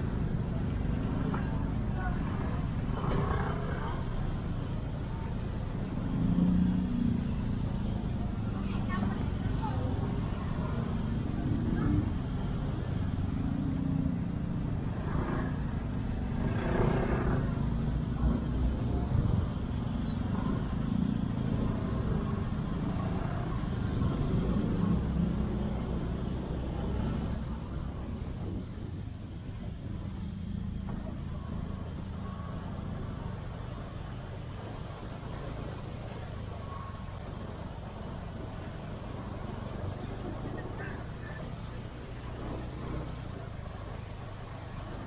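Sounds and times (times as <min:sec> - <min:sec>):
traffic engines rumbling: 0:00.0 - 0:45.0.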